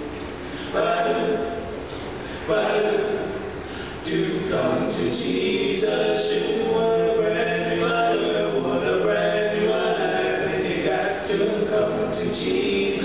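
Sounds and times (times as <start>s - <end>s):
male vocal group singing in harmony: 0.7s - 1.6s, 2.4s - 3.4s, 4.0s - 13.0s.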